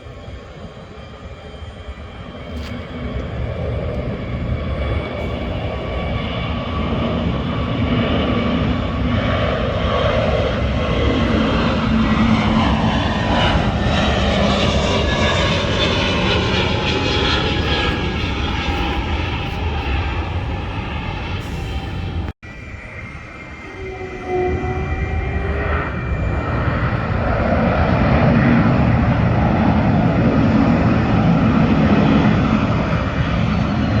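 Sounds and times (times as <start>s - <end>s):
jet airliner passing: 0.0s - 34.0s.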